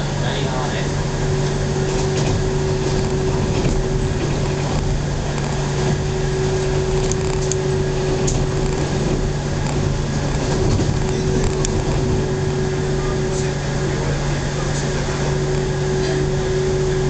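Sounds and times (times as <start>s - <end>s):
low hum: 0.0s - 17.0s
train rumble: 0.0s - 17.0s.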